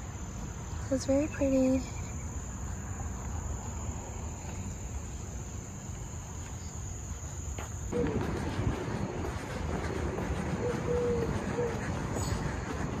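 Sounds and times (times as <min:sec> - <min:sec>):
insects droning: 0:00.0 - 0:13.0
low outdoor background: 0:00.0 - 0:13.0.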